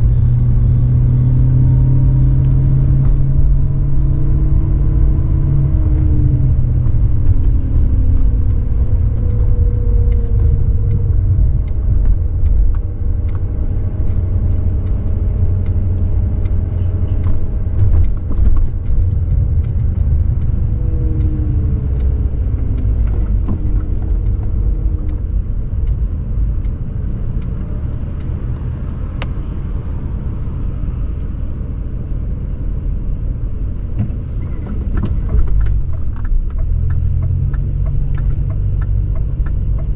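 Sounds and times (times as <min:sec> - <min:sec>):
car exhaust rumbling: 0:00.0 - 0:39.9.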